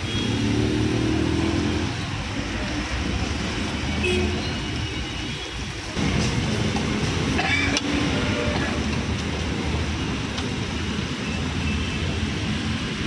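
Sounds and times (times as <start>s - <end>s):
passing car traffic: 0.0s - 13.0s.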